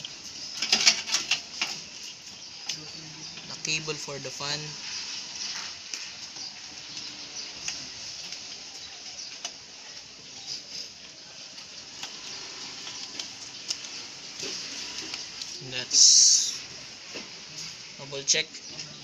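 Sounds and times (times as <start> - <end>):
steady hiss: 0.0 - 18.7.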